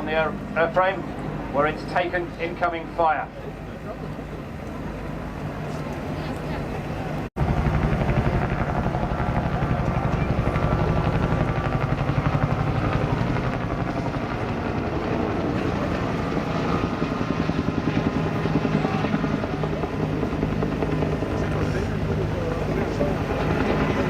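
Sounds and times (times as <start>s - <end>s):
helicopter flying by: 0.0s - 24.0s.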